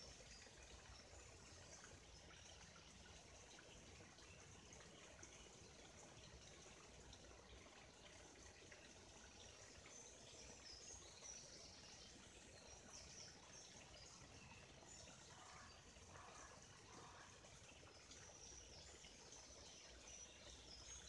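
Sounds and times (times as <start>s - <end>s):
stream trickling: 0.0s - 21.0s.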